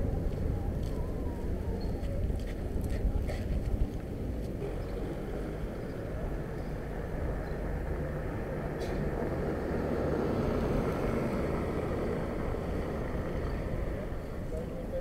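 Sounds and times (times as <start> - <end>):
wind and road noise rumble: 0.0 - 15.0.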